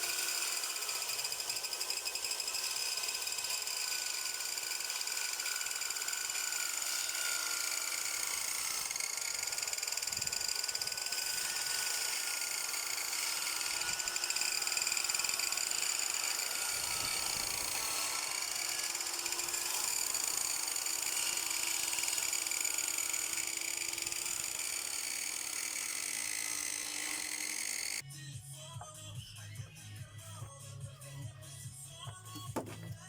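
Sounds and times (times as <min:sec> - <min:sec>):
power tool motor whining: 0:00.0 - 0:28.0.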